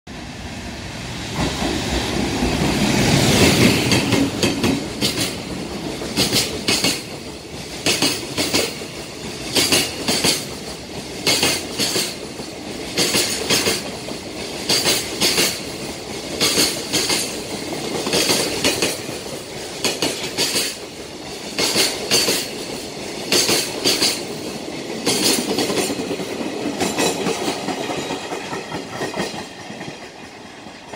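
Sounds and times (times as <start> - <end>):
electric locomotive passing: 0.1 - 30.9.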